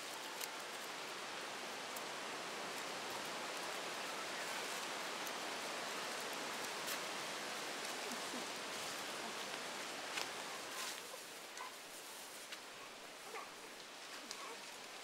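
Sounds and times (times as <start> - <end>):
faint rustling of leaves: 0.0 - 15.0
steady hiss: 0.0 - 15.0.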